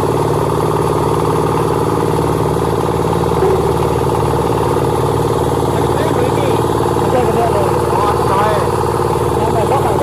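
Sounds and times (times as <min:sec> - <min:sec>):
concrete mixer engine running: 0:00.0 - 0:10.0.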